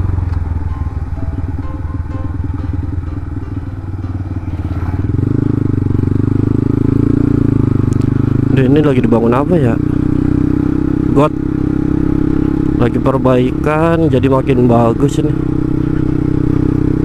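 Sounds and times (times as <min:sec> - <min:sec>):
motorcycle engine slowing: 0:00.0 - 0:17.0.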